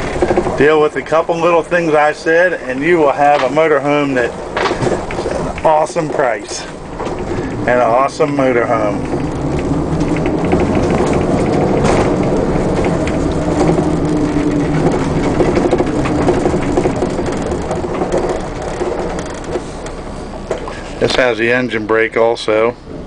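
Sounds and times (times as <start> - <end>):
diesel engine running: 0.0 - 23.0
road noise: 0.0 - 23.0.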